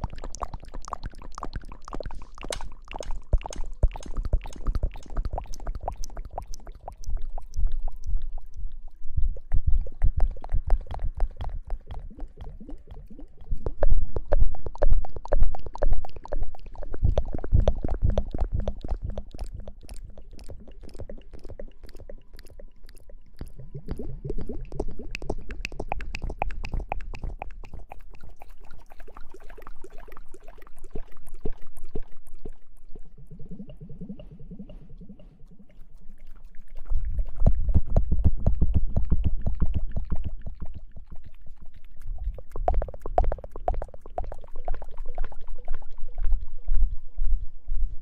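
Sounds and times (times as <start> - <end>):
crackling clicks at microphone: 0.0 - 8.4, 9.8 - 28.2, 33.2 - 46.4.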